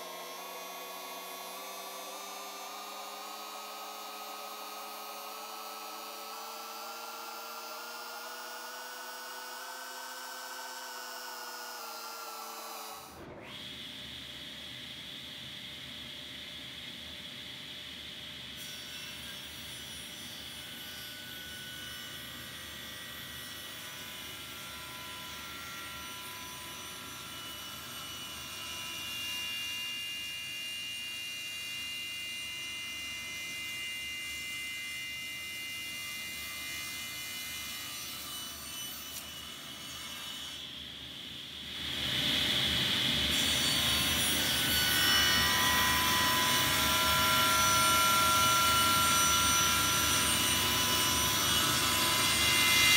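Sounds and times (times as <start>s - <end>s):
table saw cutting wood: 0.0s - 15.3s, 18.1s - 52.9s.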